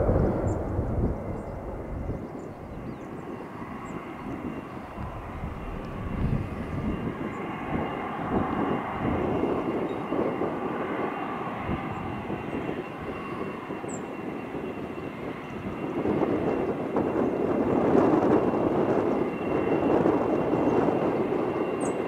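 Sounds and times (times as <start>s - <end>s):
jet engines taxiing: 0.0s - 22.0s.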